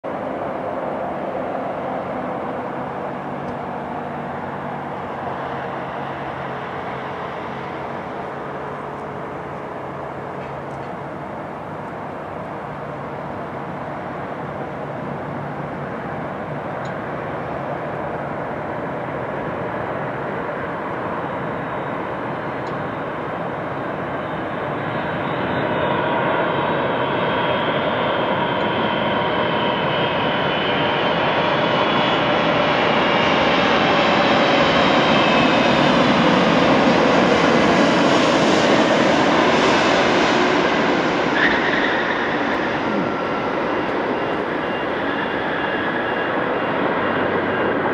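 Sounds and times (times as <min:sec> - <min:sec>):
jet engines whining roar: 0:00.1 - 0:47.9.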